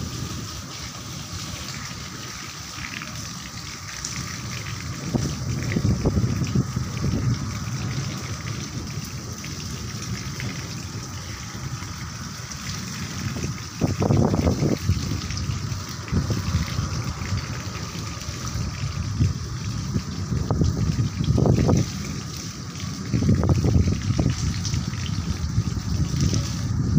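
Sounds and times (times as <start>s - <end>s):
rain falling: 0.0s - 26.9s
low rumbles: 4.0s - 26.9s.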